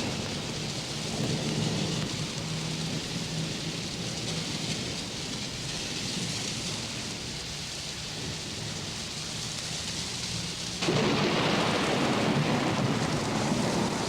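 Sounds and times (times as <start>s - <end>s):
low thunder rumbling: 0.0s - 14.0s
steady rain falling: 0.0s - 14.0s.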